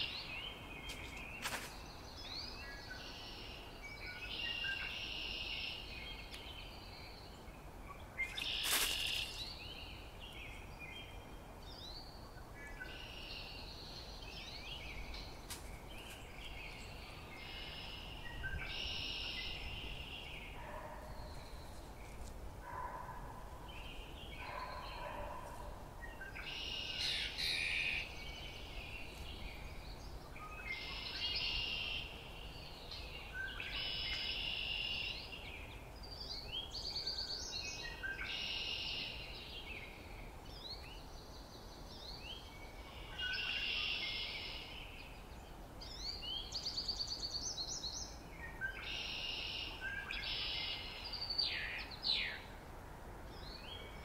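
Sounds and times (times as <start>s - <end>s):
songbirds singing: 0.0s - 52.6s, 53.2s - 54.0s.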